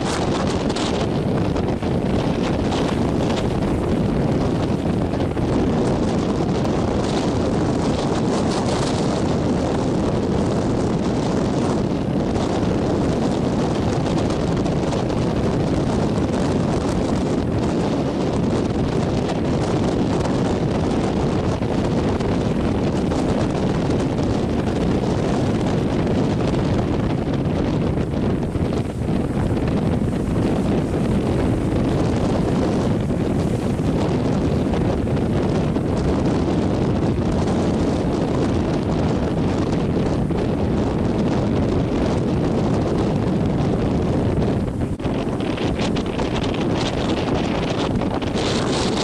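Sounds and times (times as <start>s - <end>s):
breaking surf: 0.0s - 49.0s
wind buffeting microphone: 0.0s - 49.0s.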